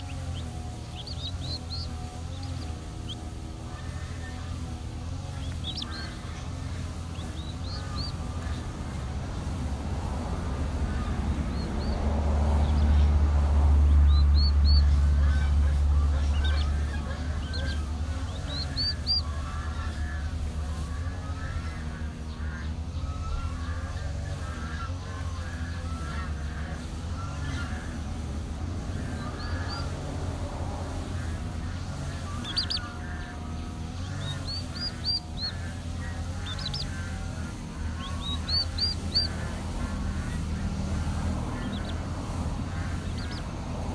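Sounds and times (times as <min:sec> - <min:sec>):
lower rough bird calls: 0:00.0 - 0:13.2, 0:13.8 - 0:43.9
chicks peeping: 0:00.0 - 0:43.9.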